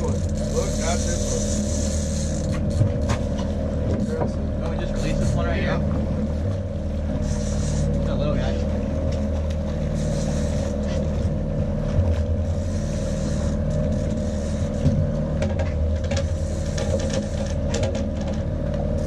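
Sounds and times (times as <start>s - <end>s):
outboard motor running: 0.0s - 19.0s
wind: 0.0s - 19.0s.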